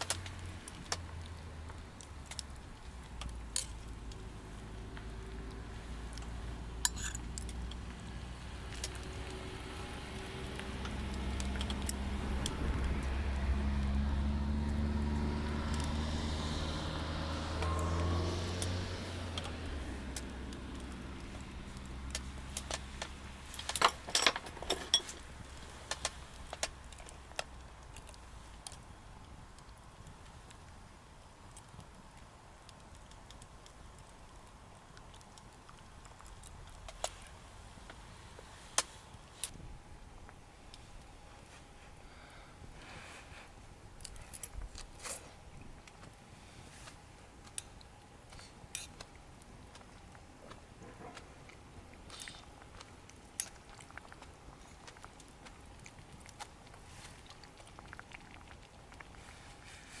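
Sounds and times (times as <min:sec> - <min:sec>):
faint clicks and crackles: 0:00.0 - 0:14.0, 0:14.6 - 1:00.0.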